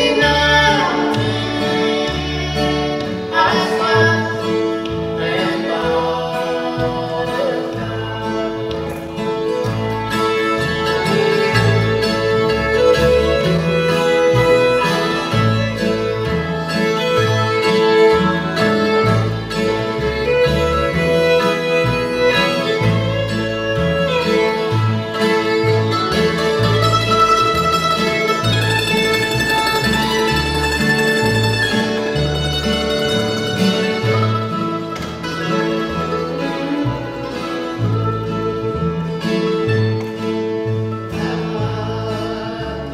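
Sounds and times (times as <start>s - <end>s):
fiddle playing: 0.0s - 42.9s
low bass notes: 0.0s - 42.9s
strummed guitar and mandolin: 0.0s - 42.9s.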